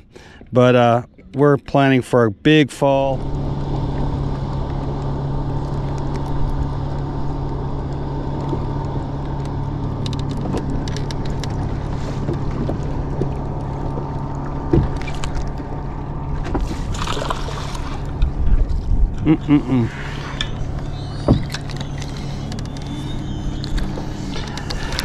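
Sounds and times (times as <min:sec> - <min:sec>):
water lapping at hull: 0:00.0 - 0:25.0
electric trolling motor humming: 0:03.0 - 0:25.0.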